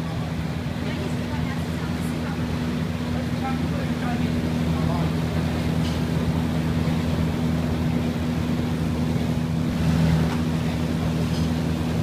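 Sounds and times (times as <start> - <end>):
exhaust fan air rush: 0.0 - 12.0
fan low hum: 0.0 - 12.0.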